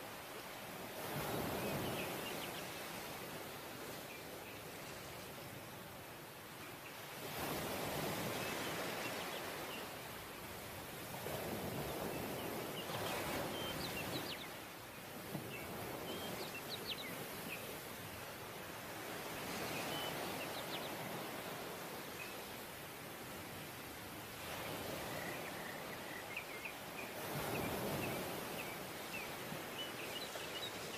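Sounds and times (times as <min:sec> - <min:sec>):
sea surf breaking on beach: 0:00.0 - 0:04.2, 0:07.1 - 0:30.9.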